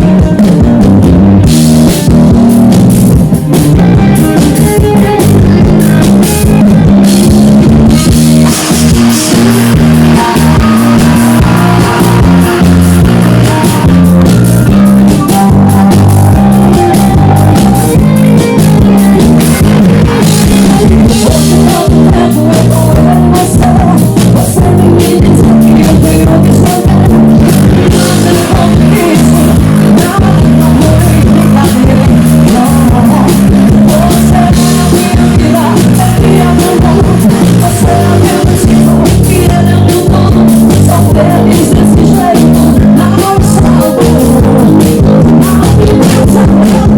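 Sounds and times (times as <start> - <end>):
bass: 0.0 - 46.9
instrumental live band music: 0.0 - 46.9
keyboards: 0.0 - 46.9
steady drum beat: 0.0 - 46.9
person singing: 3.8 - 46.9.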